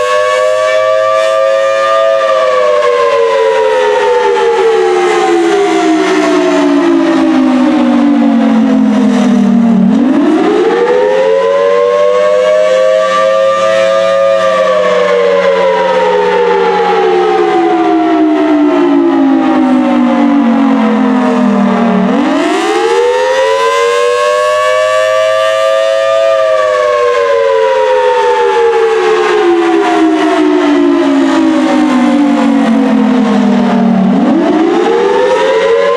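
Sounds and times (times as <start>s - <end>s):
outdoor warning siren wailing: 0.0s - 35.9s.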